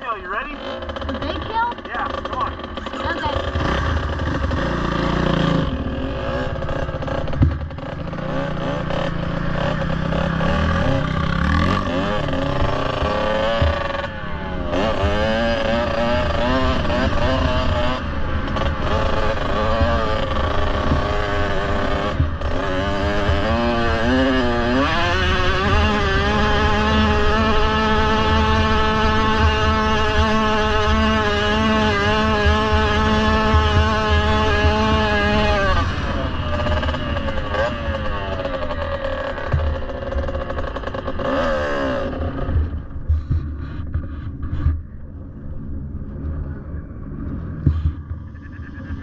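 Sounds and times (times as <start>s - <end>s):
dirt bike engine revving: 0.0s - 44.6s.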